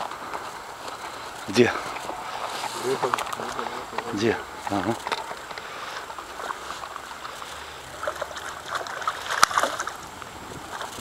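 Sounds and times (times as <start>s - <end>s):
water sloshing and splashing: 0.0s - 11.0s
fish thrashing at water surface: 1.8s - 11.0s.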